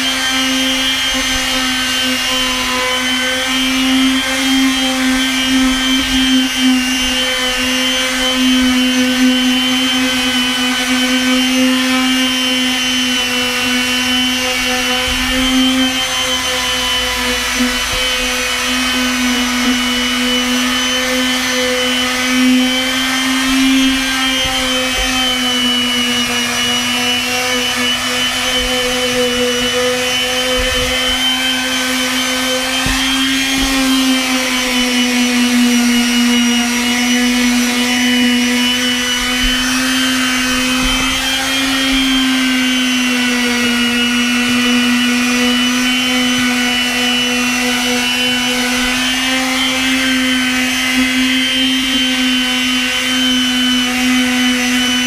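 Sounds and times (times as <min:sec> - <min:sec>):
palm sander motor whine: 0:00.0 - 0:55.0
rasp of sanding wood: 0:00.0 - 0:55.0.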